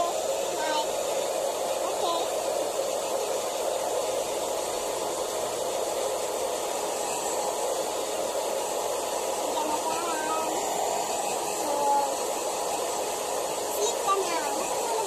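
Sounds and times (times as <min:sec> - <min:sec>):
blow dryer running: 0:00.0 - 0:15.0.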